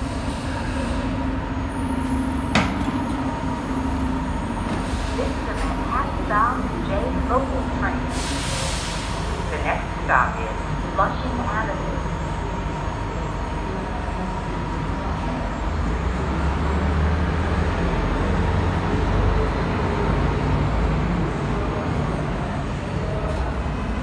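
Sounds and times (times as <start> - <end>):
subway train hum and rumble: 0.0 - 24.0.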